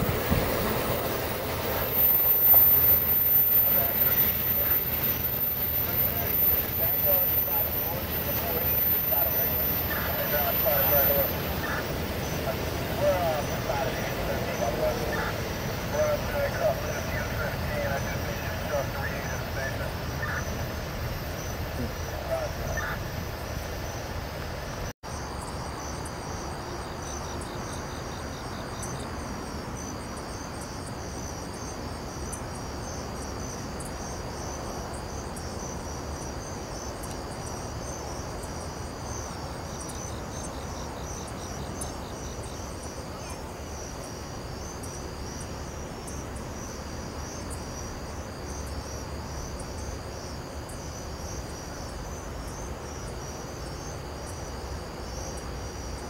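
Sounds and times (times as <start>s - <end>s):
crickets chirping: 0.0s - 56.0s
fast pulsed insect trill: 0.1s - 56.0s.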